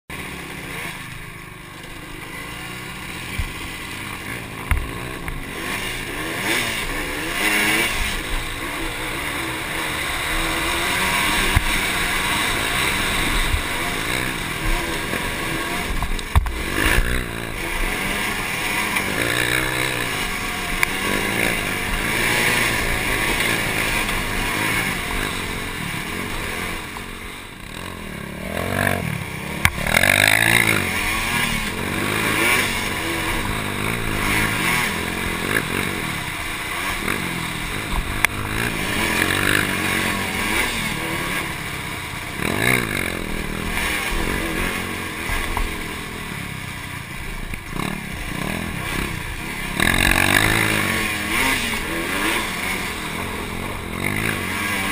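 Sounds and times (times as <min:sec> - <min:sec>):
quad engine revving: 0:00.1 - 0:54.9.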